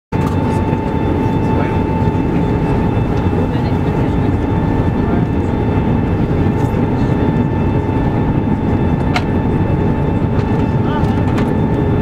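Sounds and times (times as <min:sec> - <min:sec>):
aircraft cabin roar: 0:00.1 - 0:12.0.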